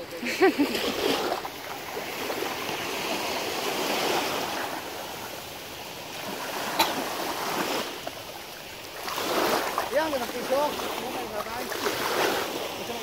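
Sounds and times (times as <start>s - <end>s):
small waves washing in: 0.0s - 13.0s.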